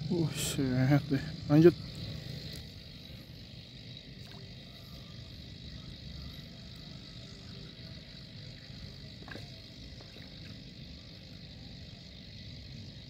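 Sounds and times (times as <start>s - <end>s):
high hiss: 0.0s - 13.0s
low steady rumble: 0.0s - 13.0s.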